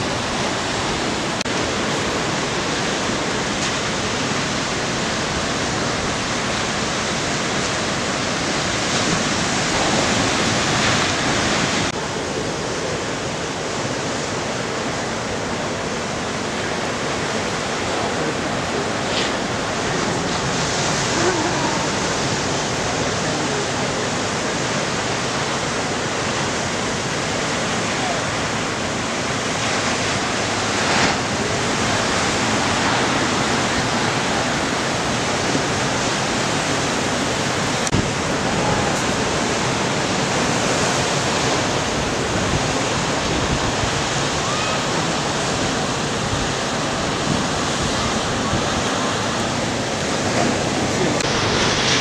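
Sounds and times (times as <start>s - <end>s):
ocean waves breaking: 0.0s - 52.0s.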